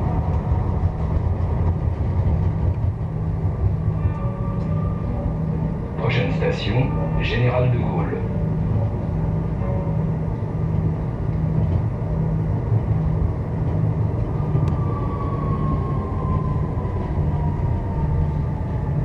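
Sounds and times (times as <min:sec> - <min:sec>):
tram rumble: 0:00.0 - 0:19.0.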